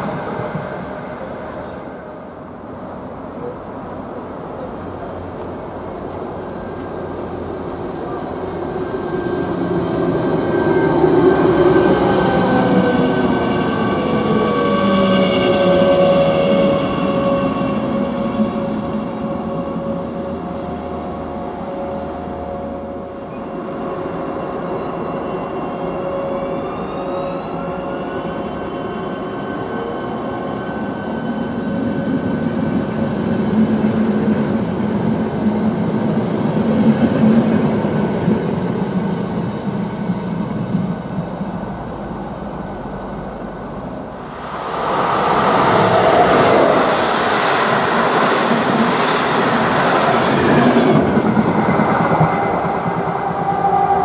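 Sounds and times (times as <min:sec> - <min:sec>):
electric train traction whine: 0:00.0 - 0:54.0
express train rushing past: 0:00.0 - 0:54.0
train rolling rumble: 0:00.0 - 0:54.0.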